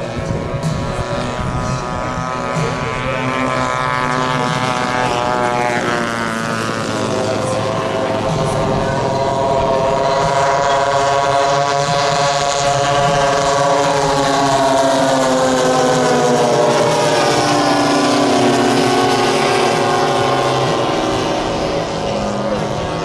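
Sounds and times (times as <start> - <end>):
model airplane propeller engines: 0.0 - 23.0.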